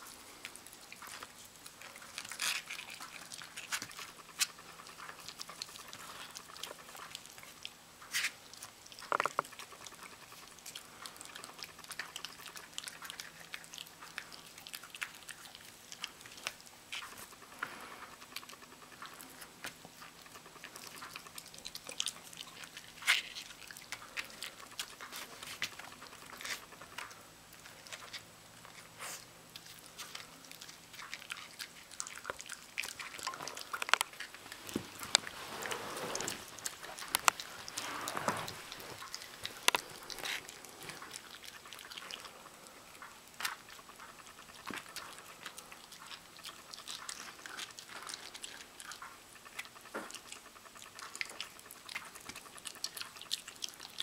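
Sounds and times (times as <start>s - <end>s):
dog chewing meat: 0.0s - 54.0s.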